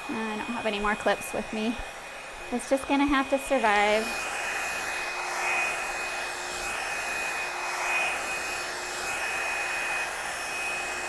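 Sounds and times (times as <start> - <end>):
hair dryer blowing with whine: 0.0 - 11.0.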